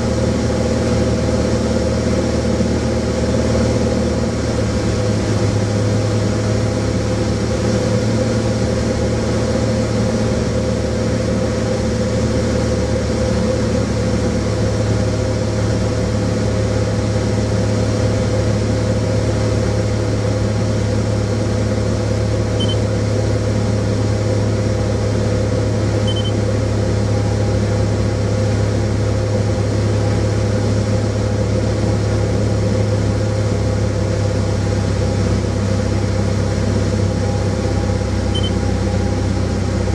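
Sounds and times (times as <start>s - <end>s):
small plane engine droning: 0.0s - 39.9s.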